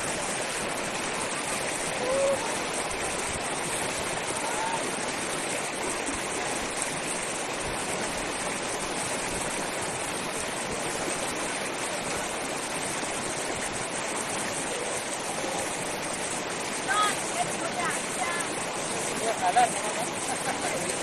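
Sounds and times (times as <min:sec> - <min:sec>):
rushing river water: 0:00.0 - 0:21.0.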